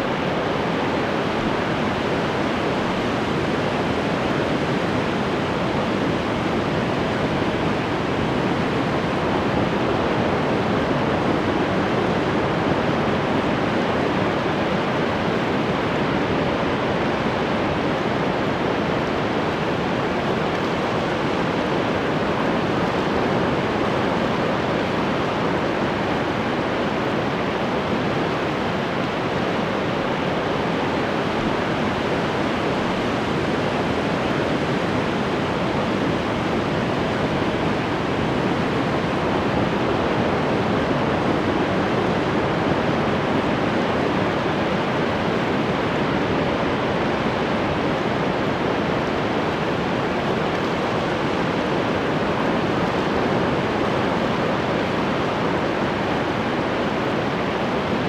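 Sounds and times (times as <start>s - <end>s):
ocean surf roar: 0.0s - 58.0s.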